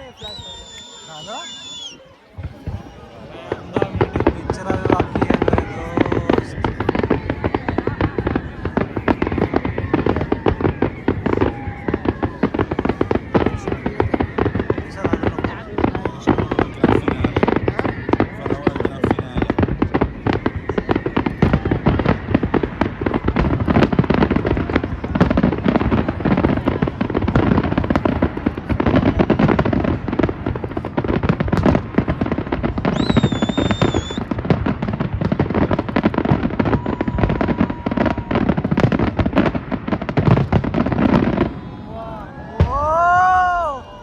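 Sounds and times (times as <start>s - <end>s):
high firework whistle: 0.0s - 25.9s, 32.7s - 44.0s
fireworks crackling and popping: 0.0s - 44.0s
low fireworks booms: 0.0s - 44.0s.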